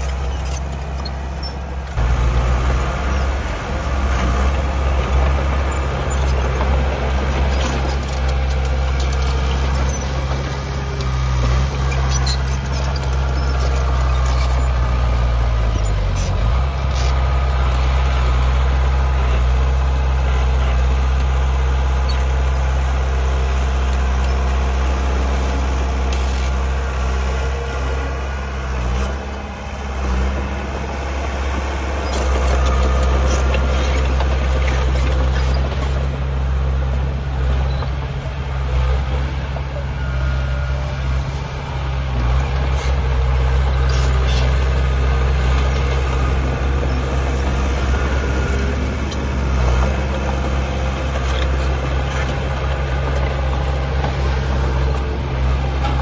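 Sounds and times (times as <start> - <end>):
diesel machinery engine hum: 0.0 - 56.0.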